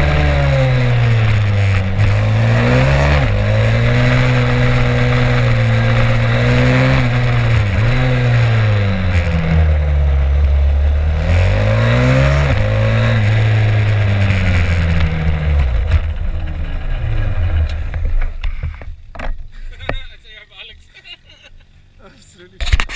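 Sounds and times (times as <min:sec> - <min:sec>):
motorcycle engine running hard: 0:00.0 - 0:18.9.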